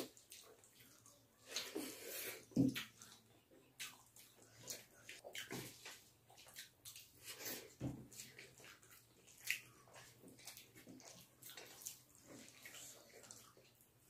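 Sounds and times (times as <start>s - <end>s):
chewing and lip smacking: 0.0s - 14.0s.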